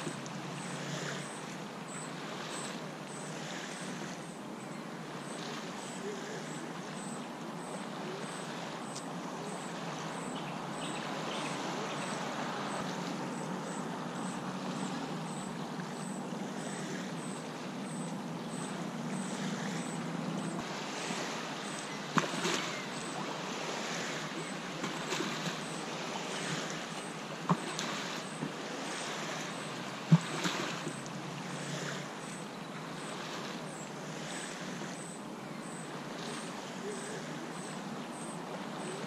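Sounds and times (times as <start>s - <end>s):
small waves lapping on shore: 0.0s - 39.0s.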